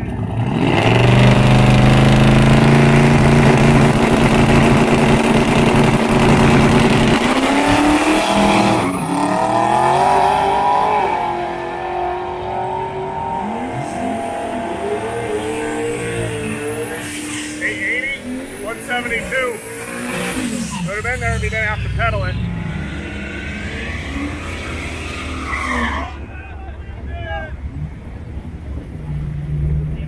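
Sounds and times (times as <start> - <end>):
drag car engine revving: 0.0 - 26.2.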